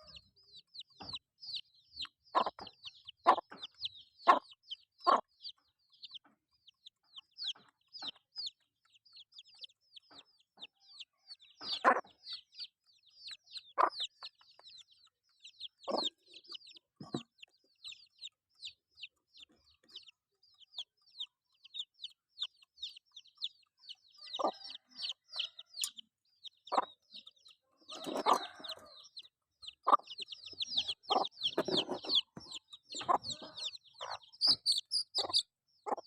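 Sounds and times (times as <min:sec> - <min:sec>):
chicken clucks: 0:00.0 - 0:36.0
chicks peeping: 0:00.0 - 0:36.0.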